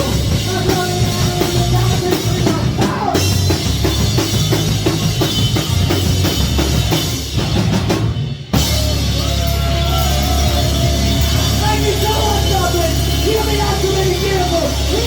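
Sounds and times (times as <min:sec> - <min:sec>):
drum kit beating: 0:00.0 - 0:15.0.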